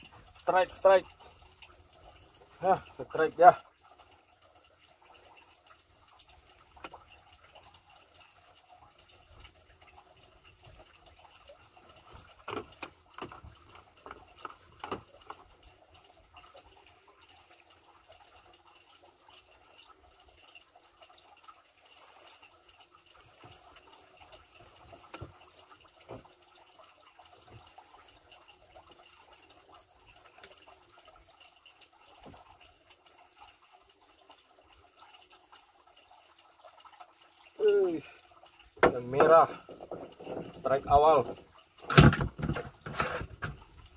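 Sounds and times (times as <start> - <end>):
sharp taps and splashes: 0.0 - 20.7, 21.4 - 43.9.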